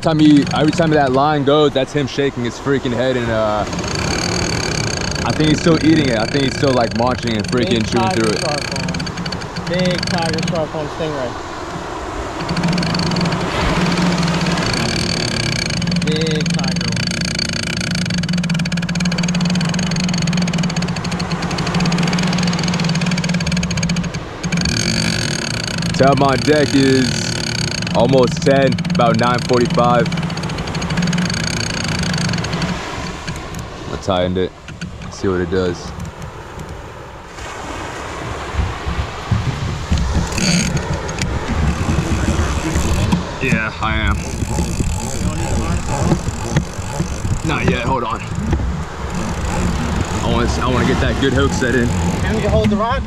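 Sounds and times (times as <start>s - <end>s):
fishing reel ratcheting: 0.0s - 1.4s, 3.4s - 10.7s, 12.3s - 33.7s, 35.8s - 36.8s, 39.8s - 52.7s
engine idling: 0.0s - 37.2s, 38.2s - 53.0s.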